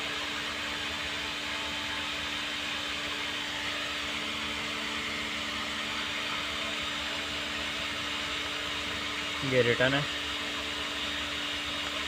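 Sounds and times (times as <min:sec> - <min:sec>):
machine whir: 0:00.0 - 0:12.0.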